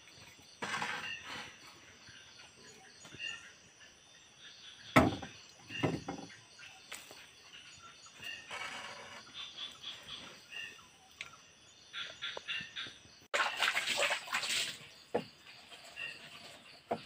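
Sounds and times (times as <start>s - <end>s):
bird calls and clucks: 0.1s - 13.3s, 15.1s - 17.0s.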